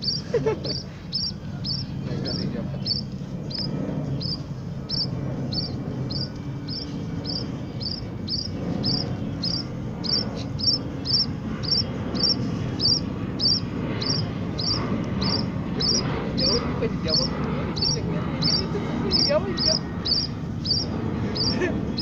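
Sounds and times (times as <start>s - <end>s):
low background murmur: 0.0s - 22.0s
small bird chirping: 0.0s - 22.0s.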